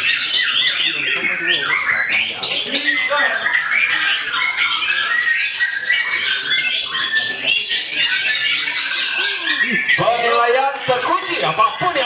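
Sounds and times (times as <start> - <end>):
caged songbirds singing: 0.0 - 12.0.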